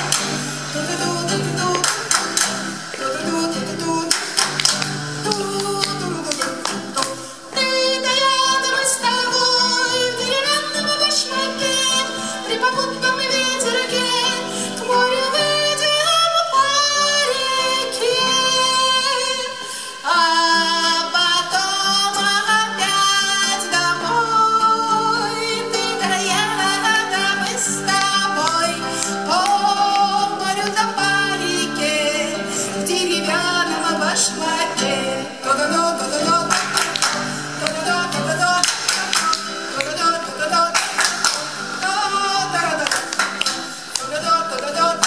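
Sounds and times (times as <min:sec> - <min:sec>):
acoustic guitar: 0:00.0 - 0:45.0
person singing: 0:00.0 - 0:45.0.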